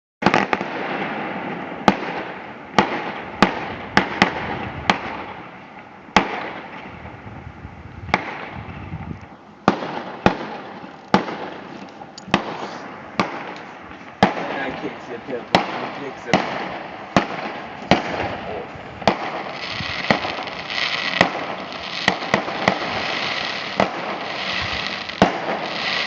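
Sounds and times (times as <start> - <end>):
fireworks bangs and crackle: 0.2 - 7.4, 8.0 - 26.0.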